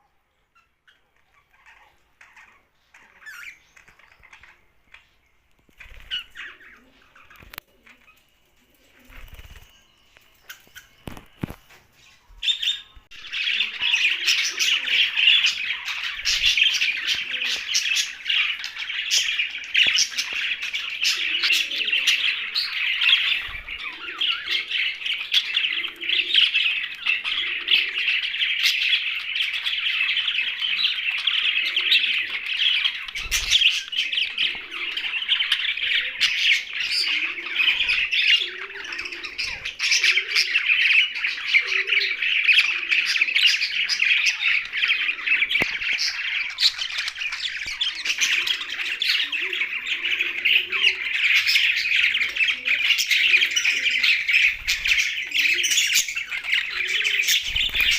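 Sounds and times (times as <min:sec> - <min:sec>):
budgerigars chirping and squawking: 0:00.3 - 0:09.6, 0:10.2 - 0:57.9.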